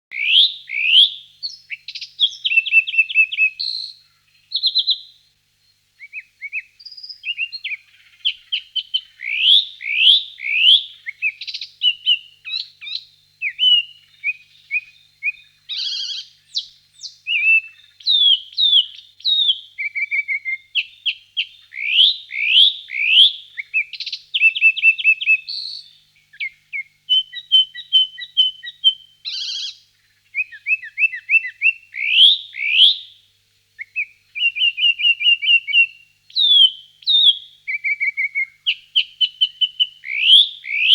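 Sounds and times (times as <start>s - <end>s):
songbirds singing: 0.1s - 40.9s.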